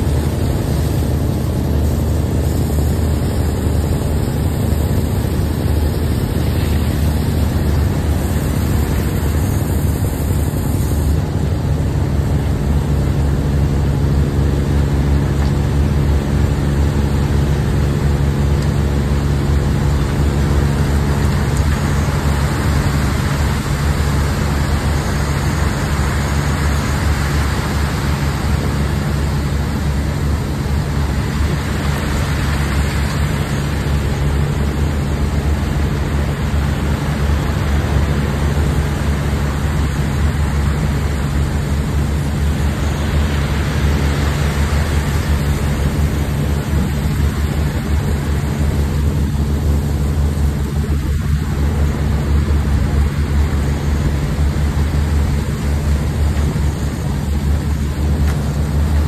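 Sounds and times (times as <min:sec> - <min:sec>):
heavy machinery engine droning: 0:00.0 - 0:59.0
steady hiss: 0:00.0 - 0:59.0.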